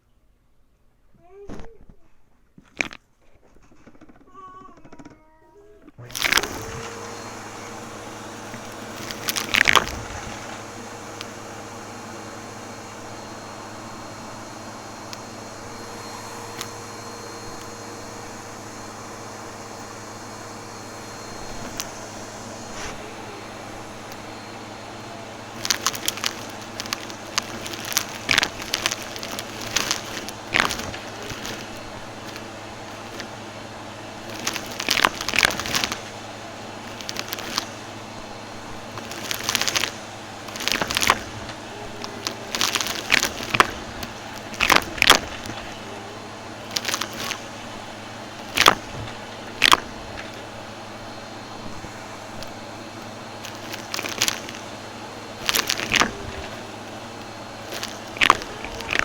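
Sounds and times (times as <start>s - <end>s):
vacuum cleaner running: 5.8s - 59.0s
vacuum crunching debris: 6.0s - 59.0s.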